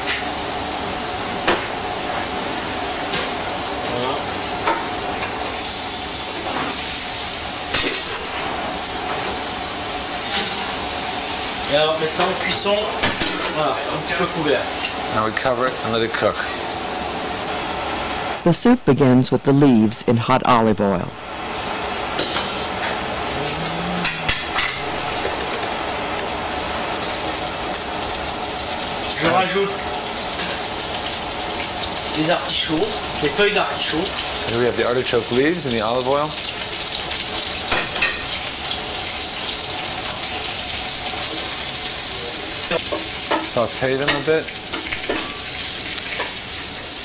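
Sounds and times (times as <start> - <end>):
saucepan simmering hiss: 0.0 - 18.8, 21.2 - 47.0.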